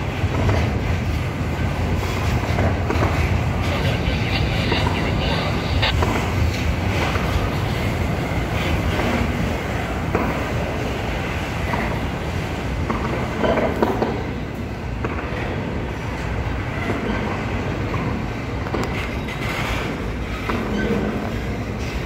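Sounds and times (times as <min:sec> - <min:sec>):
freight train rumbling past: 0:00.0 - 0:22.0
wheels clicking on rails: 0:00.0 - 0:22.0.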